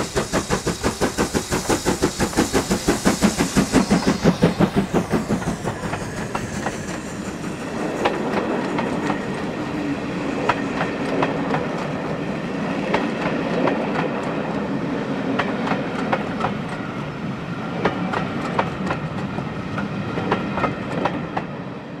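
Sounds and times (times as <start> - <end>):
train wheels clicking over rail joints: 0.0 - 14.7, 15.3 - 16.9, 17.8 - 21.6
steam locomotive exhaust beats: 0.0 - 21.6
train rumble: 0.0 - 22.0.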